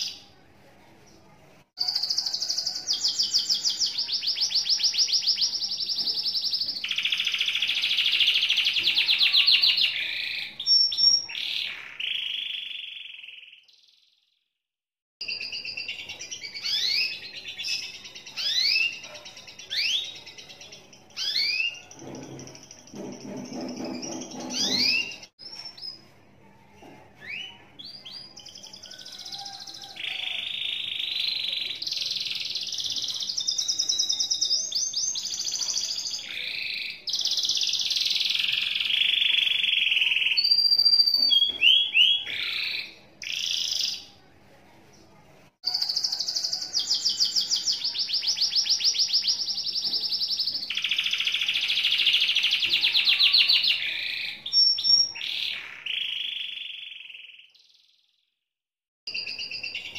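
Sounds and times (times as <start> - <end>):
canary singing trills: 1.8 - 14.1, 15.2 - 26.1, 27.2 - 44.2, 45.6 - 58.0.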